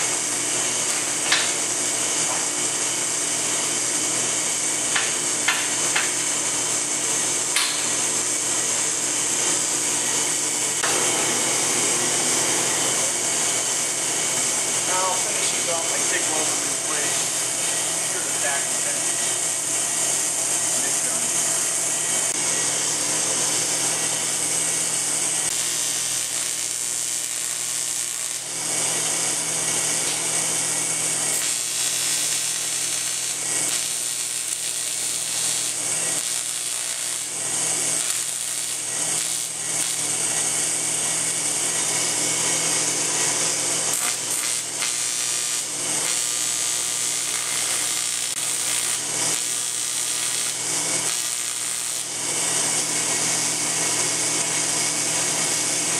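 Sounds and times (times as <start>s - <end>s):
welding arc buzzing and hissing: 0.0s - 55.9s.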